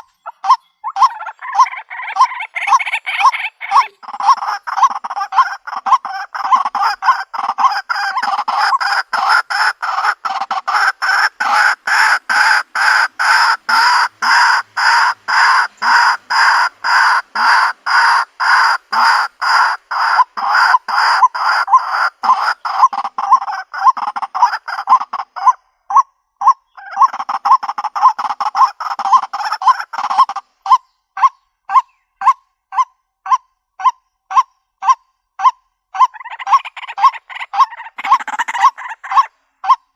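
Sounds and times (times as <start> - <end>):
bird calling harsh croaking notes: 0.0 - 39.9.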